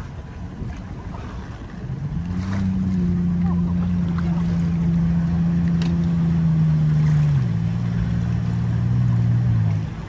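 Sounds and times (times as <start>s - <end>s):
engine humming: 0.0s - 10.0s.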